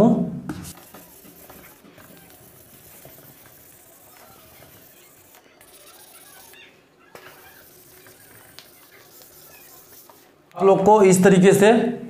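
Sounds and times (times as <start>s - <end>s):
eraser wiping whiteboard: 0.7s - 10.4s.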